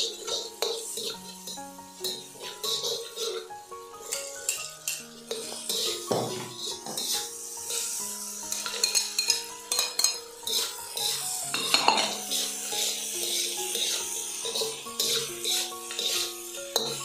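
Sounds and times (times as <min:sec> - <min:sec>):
soft background music: 0:00.0 - 0:17.0
spatula scraping a wok: 0:00.0 - 0:17.0.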